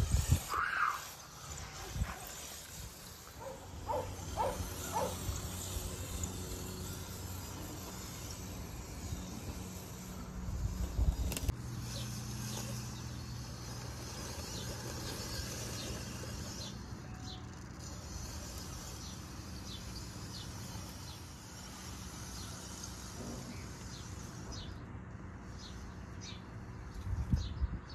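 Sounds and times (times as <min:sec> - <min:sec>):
toy car motor humming: 0:00.0 - 0:27.6
birds chirping: 0:00.0 - 0:27.9.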